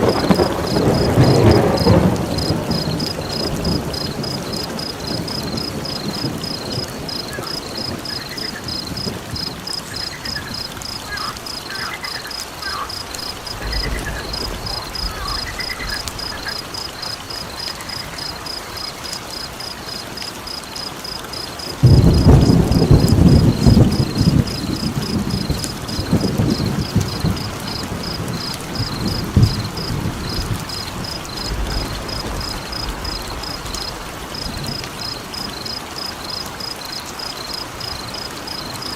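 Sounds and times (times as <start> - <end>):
thunder rumbling: 0.0 - 36.4
crickets chirping: 0.0 - 38.9
rain hissing: 0.0 - 38.9.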